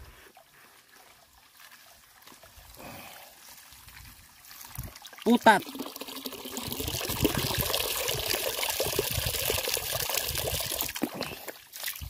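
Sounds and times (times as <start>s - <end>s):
water pouring and splashing: 0.1s - 12.0s.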